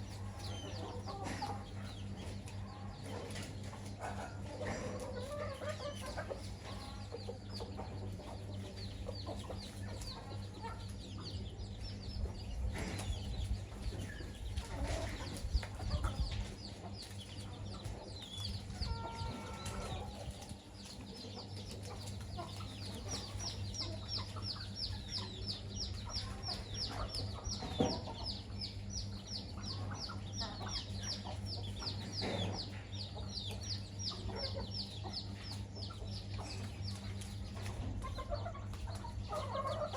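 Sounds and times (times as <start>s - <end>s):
chicks peeping: 0.0s - 39.9s
hens clucking: 0.0s - 39.9s
steady low hum: 0.0s - 39.9s.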